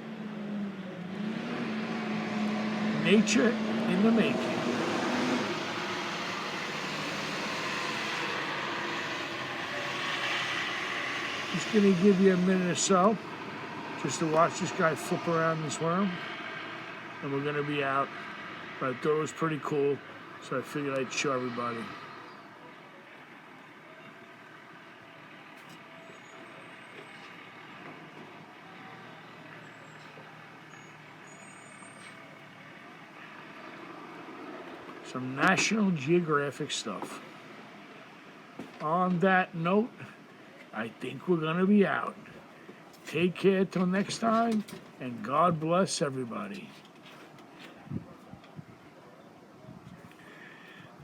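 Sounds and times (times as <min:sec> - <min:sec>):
outdoor background rush: 0:00.0 - 0:51.0
distant vehicle noise hiss: 0:00.1 - 0:51.0.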